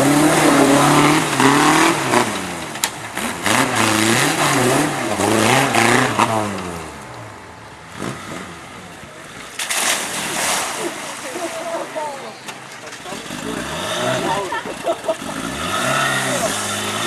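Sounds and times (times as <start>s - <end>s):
car engine revving: 0.0s - 10.5s, 12.9s - 17.0s.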